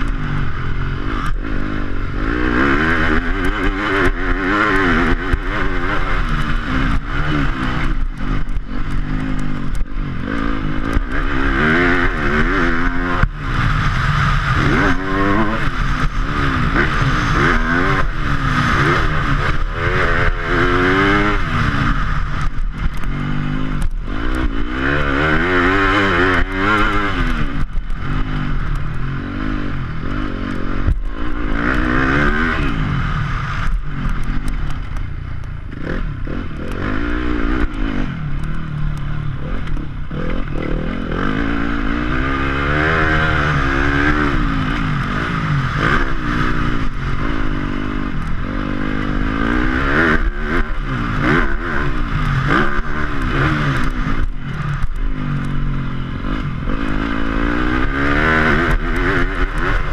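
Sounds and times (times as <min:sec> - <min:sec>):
motocross engine revving: 0:00.0 - 0:35.0, 0:35.6 - 0:59.9.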